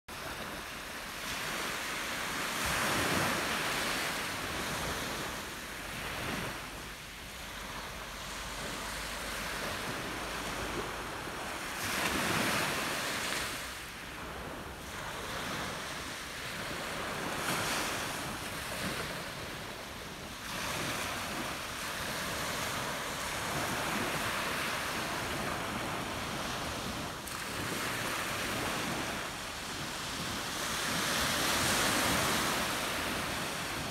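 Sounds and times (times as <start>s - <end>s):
waves washing up pebble beach: 0.1s - 33.9s.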